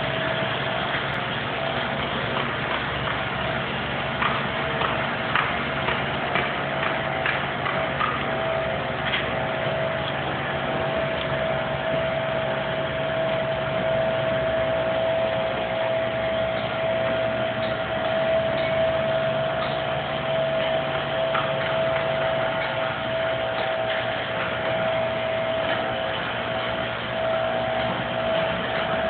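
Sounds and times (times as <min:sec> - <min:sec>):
constant whining tone: 0:00.0 - 0:29.0
construction machinery engines running: 0:00.0 - 0:29.0.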